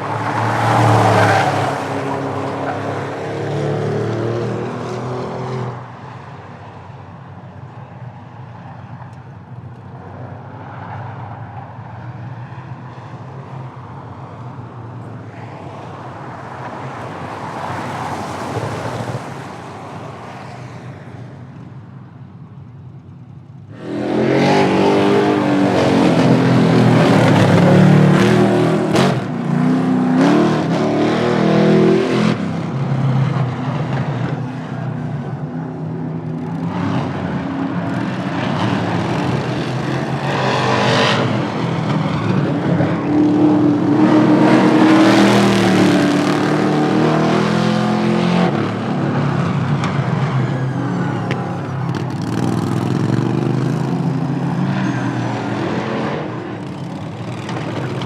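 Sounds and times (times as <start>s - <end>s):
car engines accelerating hard: 0.0s - 21.1s, 23.6s - 58.0s.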